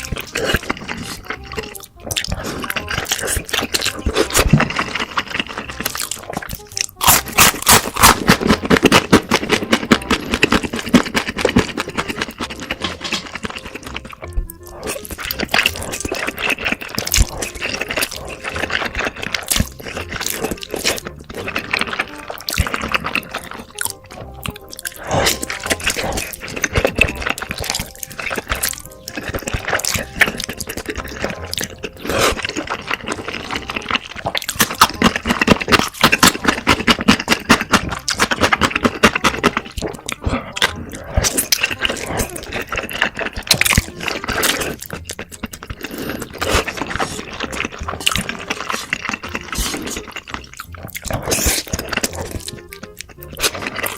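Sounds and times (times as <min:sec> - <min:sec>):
background music: 0:00.0 - 0:53.9
slurping and chewing noodles: 0:00.0 - 0:53.9.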